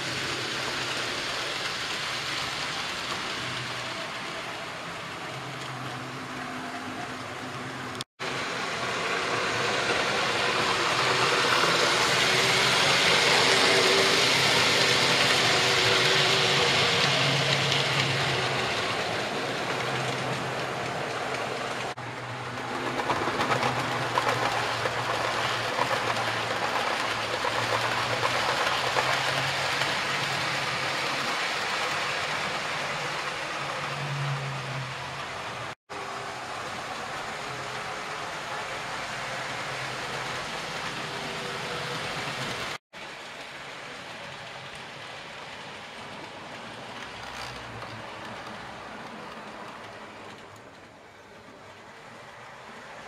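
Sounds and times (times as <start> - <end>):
model train motors whirring: 0.0 - 53.0
wheels clicking over rail joints: 8.8 - 53.0.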